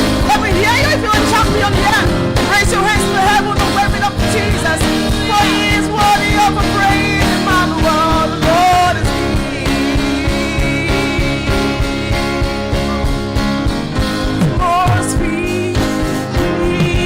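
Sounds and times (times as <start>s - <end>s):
choir singing with band: 0.0s - 17.0s
person singing melody: 0.0s - 17.0s
steady drum beat: 0.0s - 17.0s.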